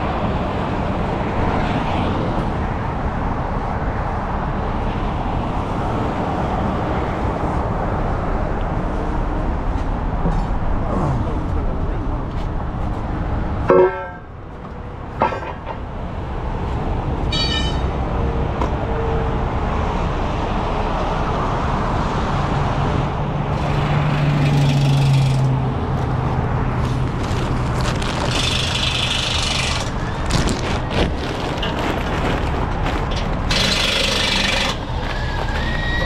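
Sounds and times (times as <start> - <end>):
heavy truck engines running: 0.0 - 36.0
road traffic noise: 0.0 - 36.0.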